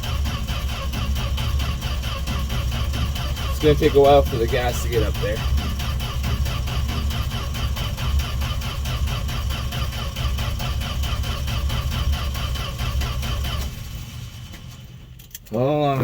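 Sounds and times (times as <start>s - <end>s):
starter cranking engine: 0.0s - 16.0s.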